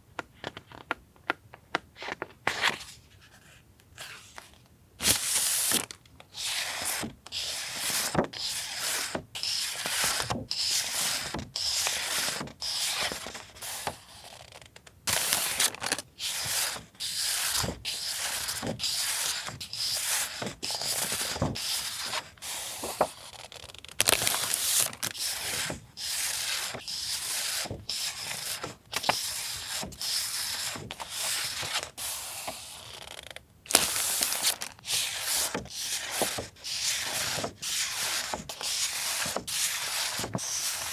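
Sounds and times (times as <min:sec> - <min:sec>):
paper rustling and rubbing: 0:05.0 - 0:40.9.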